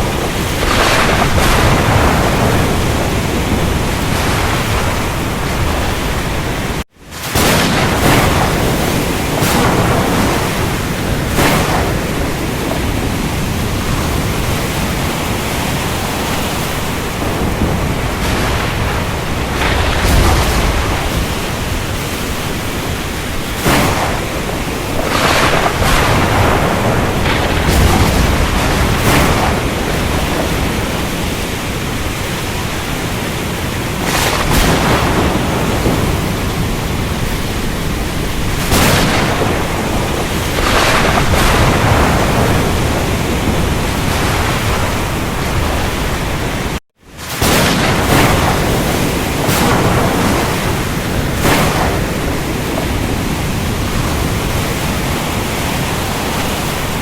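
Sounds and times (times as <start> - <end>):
rain roar: 0.0 - 57.0
surf surging: 0.0 - 57.0.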